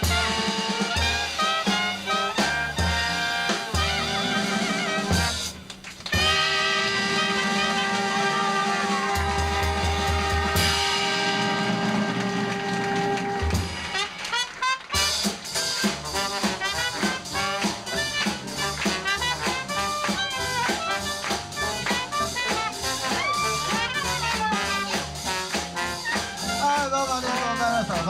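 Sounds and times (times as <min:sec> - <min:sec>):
clarinet runs: 0:00.0 - 0:28.0
drum beat: 0:00.0 - 0:28.0
jazz band playing: 0:00.0 - 0:28.0.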